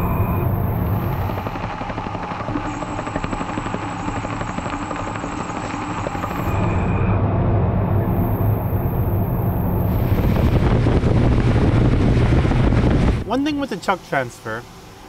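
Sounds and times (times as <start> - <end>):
high steady whine: 0.0 - 15.0.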